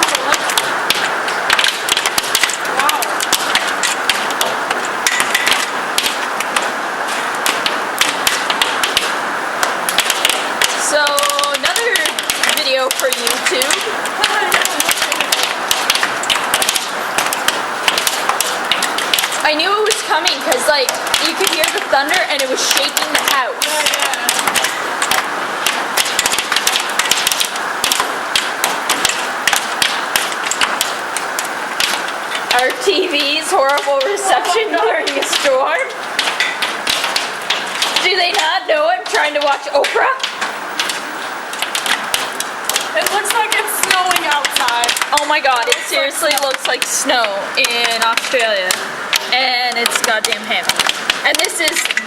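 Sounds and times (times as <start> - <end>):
hail hissing: 0.0 - 52.0
hailstones cracking on hard surfaces: 0.0 - 52.0.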